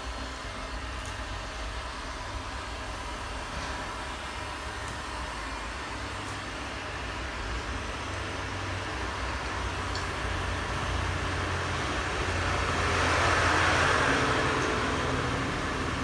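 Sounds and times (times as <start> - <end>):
heat gun fan whir: 0.0 - 16.0.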